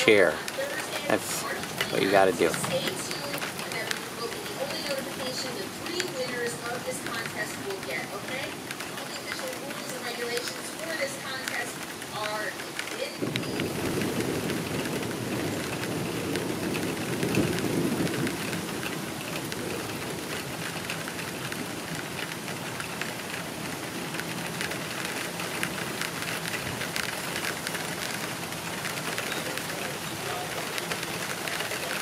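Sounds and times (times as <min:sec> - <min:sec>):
drops ticking on surfaces: 0:00.0 - 0:32.0
steady rain falling: 0:00.0 - 0:32.0.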